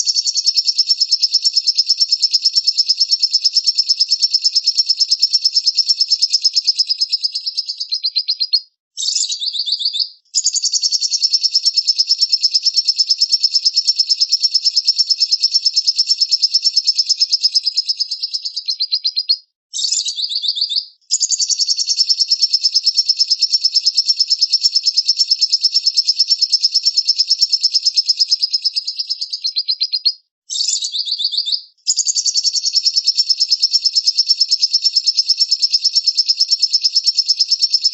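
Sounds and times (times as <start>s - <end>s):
songbird trilling: 0.0s - 37.9s.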